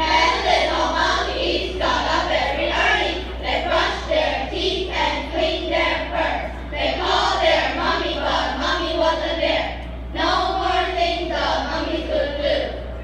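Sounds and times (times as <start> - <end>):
children singing in unison: 0.0 - 12.8
steady low hum: 0.0 - 13.0.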